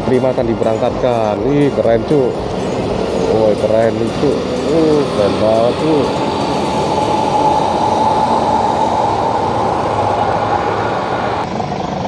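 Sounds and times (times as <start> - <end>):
bus diesel engine pulling away: 0.0 - 12.0
steady whine: 0.0 - 12.0.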